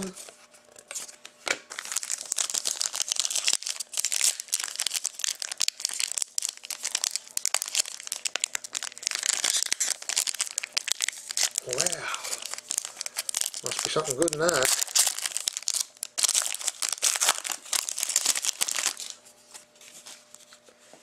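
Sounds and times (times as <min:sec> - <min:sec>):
plastic wrapper crinkling and tearing: 0:01.6 - 0:19.2.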